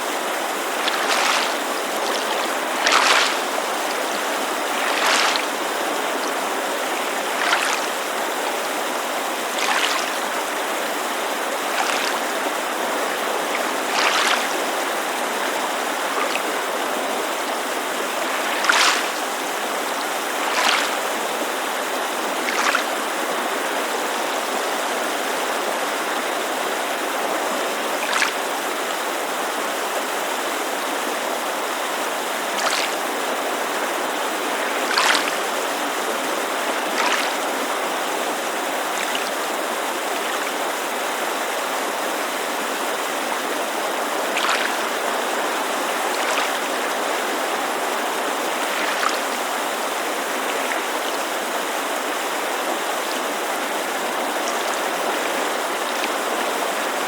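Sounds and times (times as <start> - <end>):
lake water lapping: 0.0 - 29.0, 31.8 - 57.0
creek rushing: 0.0 - 57.0.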